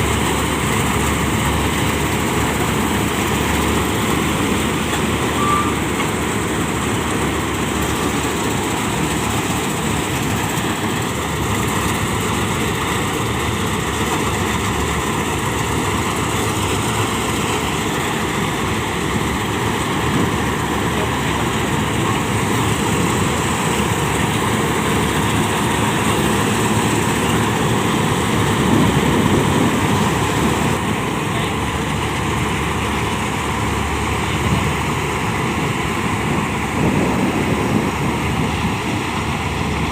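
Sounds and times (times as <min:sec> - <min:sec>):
heavy farm machinery running: 0:00.0 - 0:39.9.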